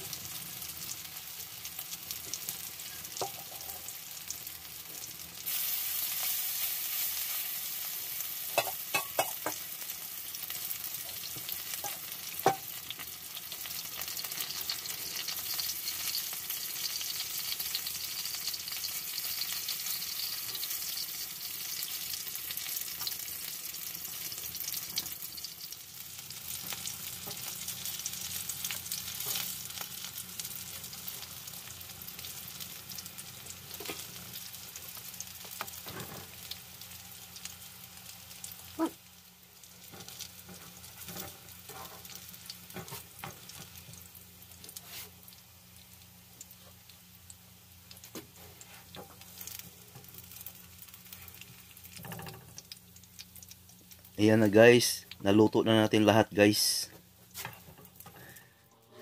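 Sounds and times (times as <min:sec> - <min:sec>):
oil sizzling in a pan: 0:00.0 - 0:59.0.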